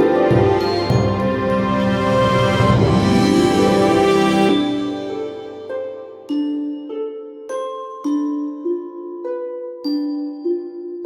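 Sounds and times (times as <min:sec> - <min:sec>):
gentle bell-like notes: 0:00.0 - 0:11.0.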